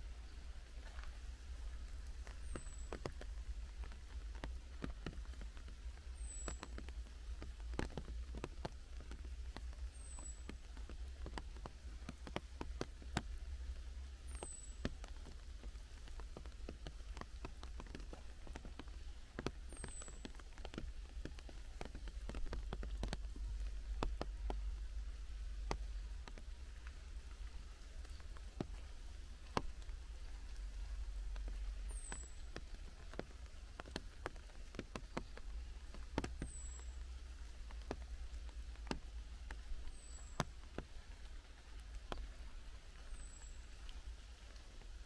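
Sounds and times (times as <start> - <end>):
rain dripping on leaves: 0.0 - 45.0.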